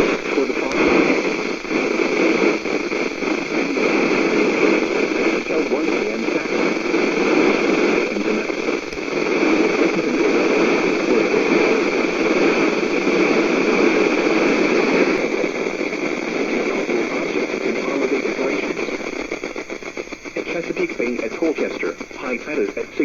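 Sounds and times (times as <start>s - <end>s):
loud radio static hiss: 0.0s - 23.0s.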